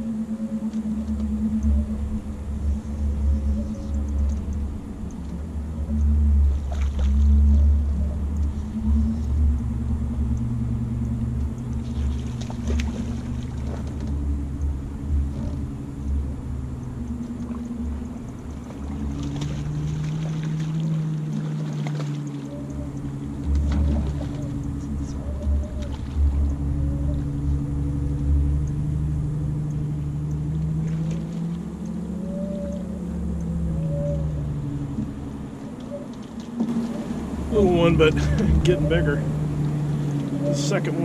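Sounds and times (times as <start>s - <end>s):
boat motor humming: 0.0s - 41.0s
low rumble: 0.0s - 41.0s
faint clicks: 0.6s - 37.1s.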